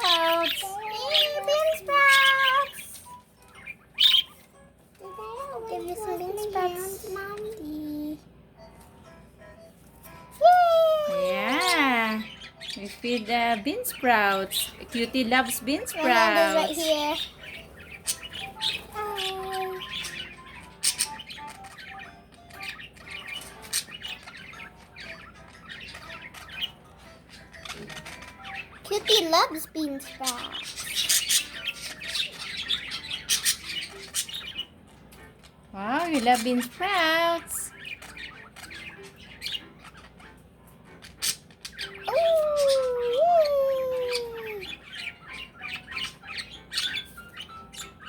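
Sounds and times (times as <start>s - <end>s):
pet birds chirping and squawking: 0.0s - 48.0s.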